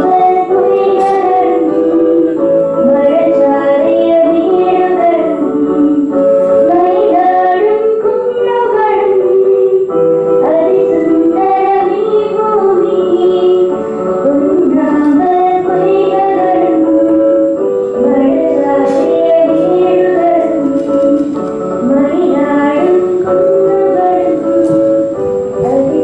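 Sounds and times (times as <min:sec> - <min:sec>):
instrumental accompaniment: 0:00.0 - 0:26.0
woman singing: 0:00.0 - 0:26.0.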